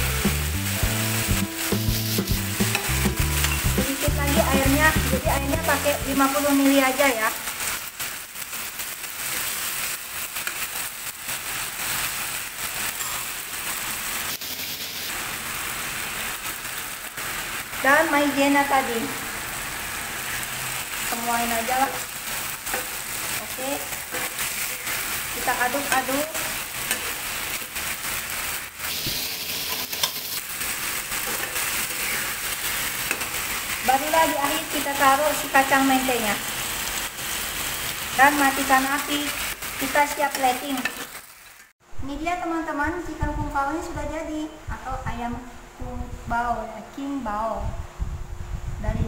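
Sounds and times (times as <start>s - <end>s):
food sizzling in a frying pan: 0.0s - 41.8s.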